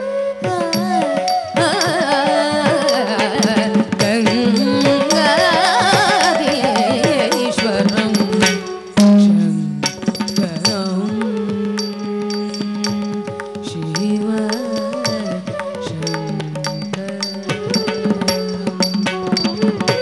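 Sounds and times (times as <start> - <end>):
drum strokes: 0.6 - 20.0.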